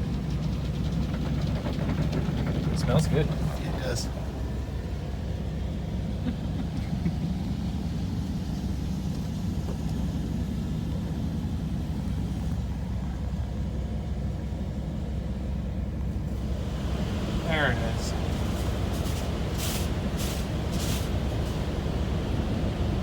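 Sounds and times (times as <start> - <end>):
car wash machinery and idling truck: 0.0 - 23.0.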